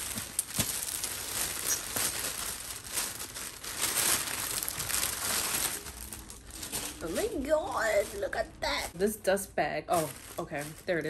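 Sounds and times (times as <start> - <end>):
plastic packaging crinkling: 0.0 - 9.2, 9.9 - 11.0.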